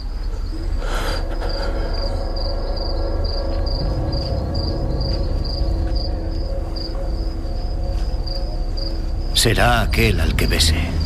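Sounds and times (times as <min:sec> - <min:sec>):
crickets chirping: 0:00.0 - 0:11.0
low drone: 0:00.0 - 0:11.0.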